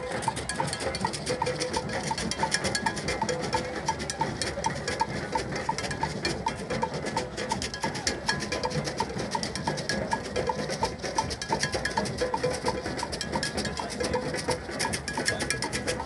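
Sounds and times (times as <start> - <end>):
hand drums playing fast rhythm: 0.0 - 16.0.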